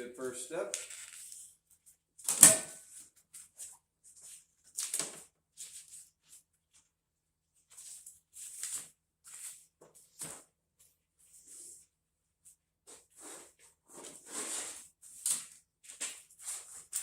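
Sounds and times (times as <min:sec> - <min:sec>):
rustling and scraping: 0:00.7 - 0:06.9, 0:07.6 - 0:17.0.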